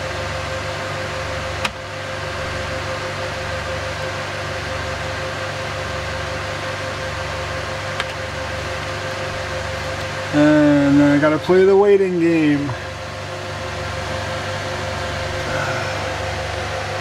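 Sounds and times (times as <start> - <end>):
server fans and drives humming: 0.0 - 17.0.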